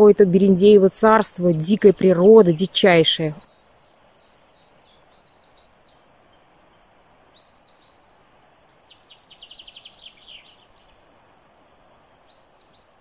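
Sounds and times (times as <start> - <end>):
soft steady hiss: 0.0 - 13.0
songbirds singing: 0.0 - 13.0.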